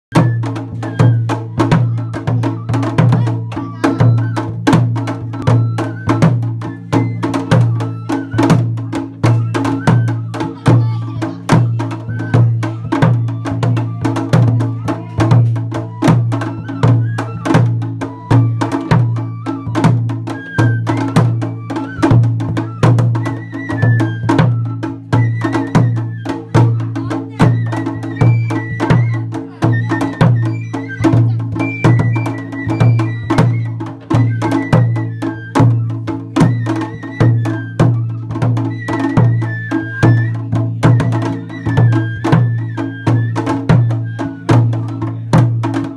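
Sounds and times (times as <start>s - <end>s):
large barrel drum beaten: 0.1s - 45.9s.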